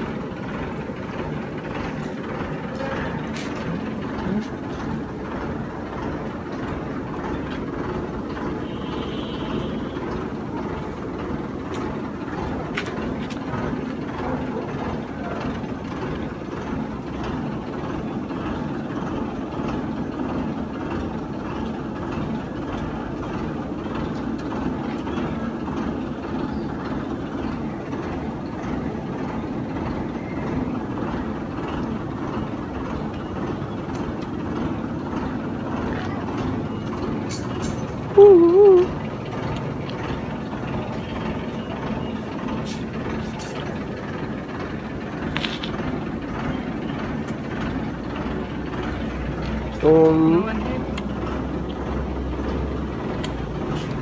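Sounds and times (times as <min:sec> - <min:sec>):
low rumbling background noise: 0:00.0 - 0:54.0.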